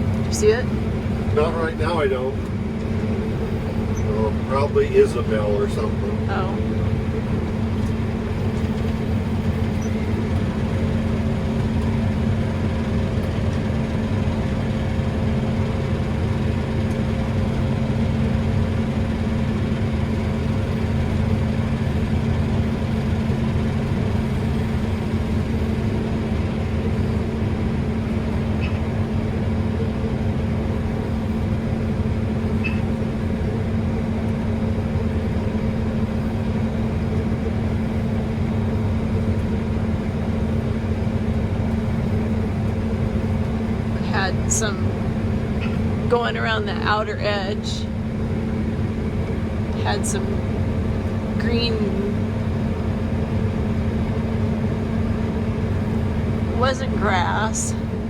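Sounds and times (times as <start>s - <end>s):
engine drone inside vehicle cab: 0.0s - 58.0s.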